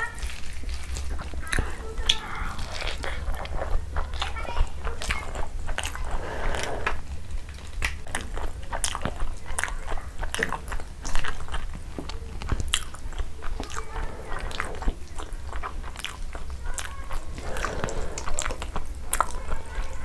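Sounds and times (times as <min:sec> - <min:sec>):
chewing with wet mouth smacks: 0:00.0 - 0:20.0.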